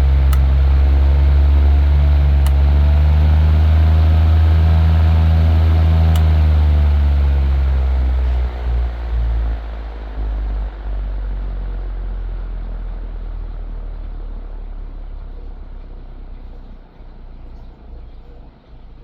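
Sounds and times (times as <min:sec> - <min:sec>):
table fan spinning down: 0:00.0 - 0:19.0.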